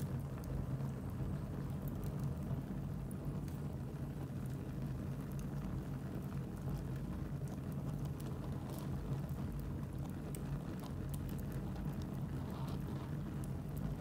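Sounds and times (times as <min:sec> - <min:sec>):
fire crackling and popping: 0:00.0 - 0:14.0
fire low rumble: 0:00.0 - 0:14.0.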